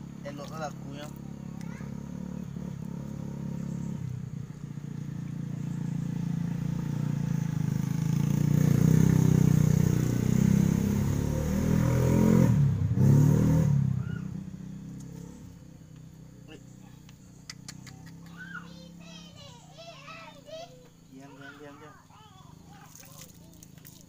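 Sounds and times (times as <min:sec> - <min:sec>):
vehicle engine passing by: 0:00.0 - 0:24.0.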